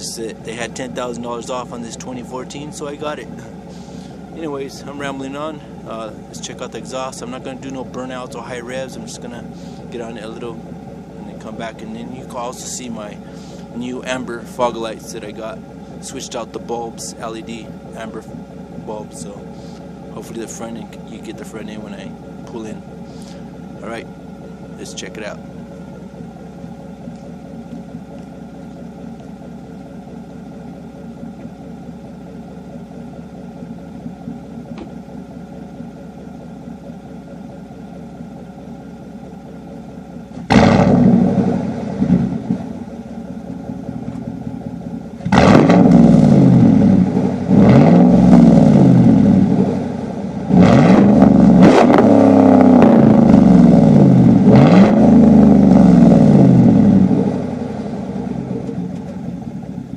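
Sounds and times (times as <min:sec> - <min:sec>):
car engine exhaust revving: 0:00.0 - 0:59.9.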